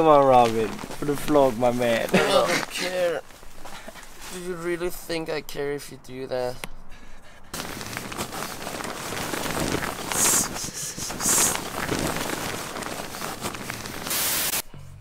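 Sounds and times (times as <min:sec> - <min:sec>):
tent fabric rustling: 0:00.0 - 0:05.0, 0:07.5 - 0:14.6.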